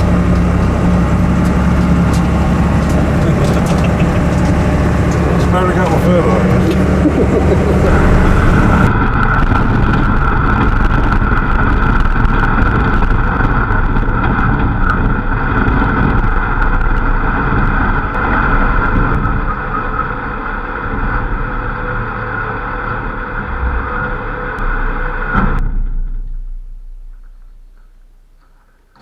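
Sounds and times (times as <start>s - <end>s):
truck engine and exhaust droning: 0.0s - 29.0s.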